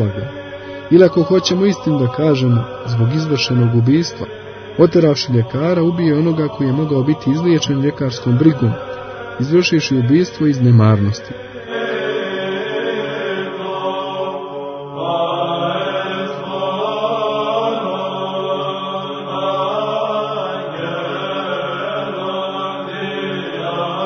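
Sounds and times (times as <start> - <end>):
voices chanting long notes: 0.0 - 24.0.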